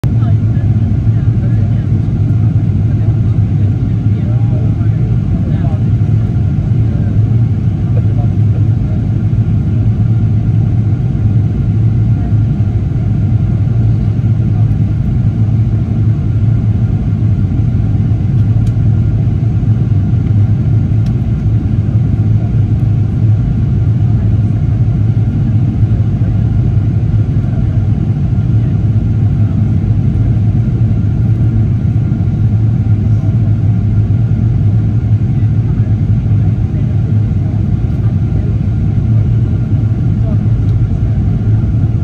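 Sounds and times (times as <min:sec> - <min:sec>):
airliner cabin engine rumble: 0:00.0 - 0:42.0.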